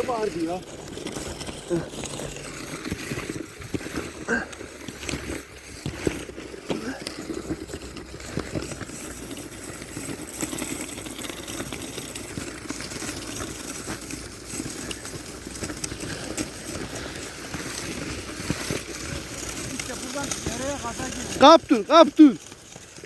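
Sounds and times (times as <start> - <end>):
skis sliding over snow: 0.0 - 23.0.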